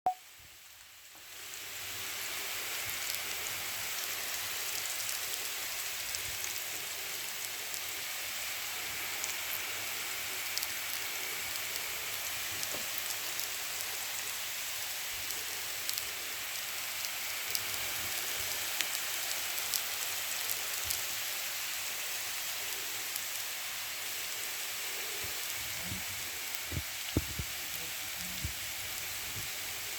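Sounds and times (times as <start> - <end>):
food frying in hot oil: 0.1 - 29.9
oil popping and crackling: 0.7 - 29.9.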